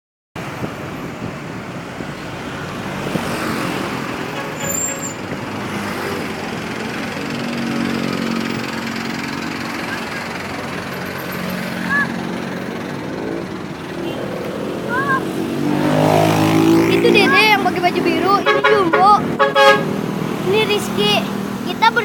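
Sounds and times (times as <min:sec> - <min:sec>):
large vehicles driving past: 0:00.4 - 0:22.0.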